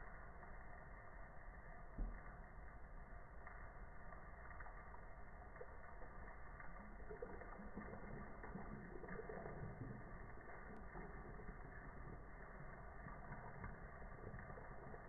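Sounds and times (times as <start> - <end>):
coffee pouring into a mug: 0.1 - 15.0.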